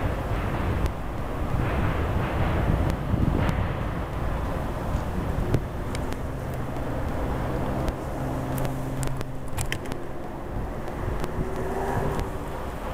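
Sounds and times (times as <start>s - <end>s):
distant road traffic rumble: 0.0s - 12.9s
engine hum: 0.0s - 12.9s.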